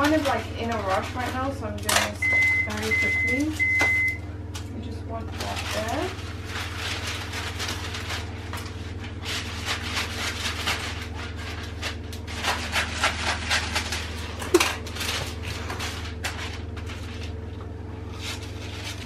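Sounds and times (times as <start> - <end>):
baking paper crinkling and tearing: 0.0 - 3.7, 4.6 - 19.0.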